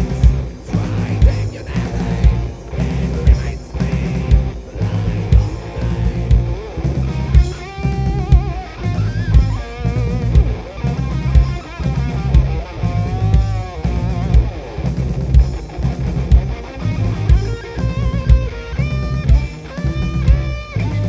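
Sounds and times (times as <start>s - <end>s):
bending lead guitar line: 0.0s - 21.0s
blues-rock band playing live: 0.0s - 21.0s.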